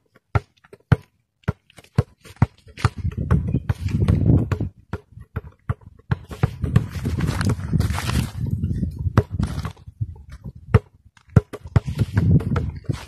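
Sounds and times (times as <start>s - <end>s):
basketball dribbling on dirt: 0.0s - 13.0s.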